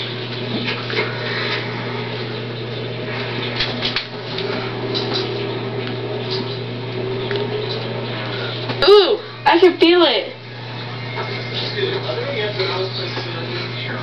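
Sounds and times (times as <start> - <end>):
low household hum: 0.0 - 14.0.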